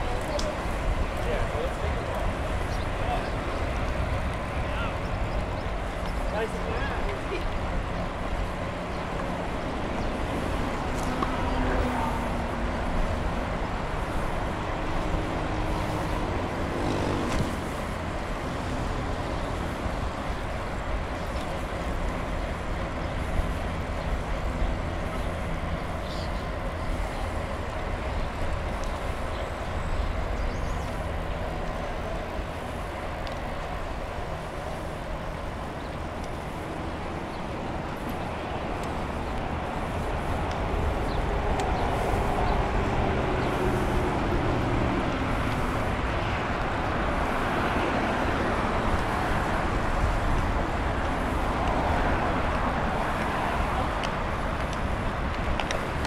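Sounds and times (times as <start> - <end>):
road traffic hum: 0.0 - 56.0.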